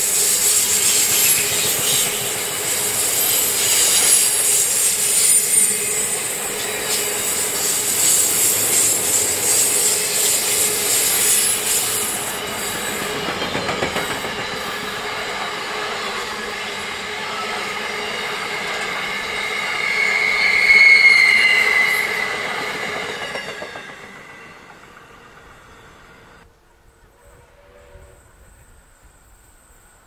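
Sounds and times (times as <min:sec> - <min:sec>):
train wagons rolling on rails: 0:00.0 - 0:26.5
train wheels squealing: 0:00.0 - 0:26.5.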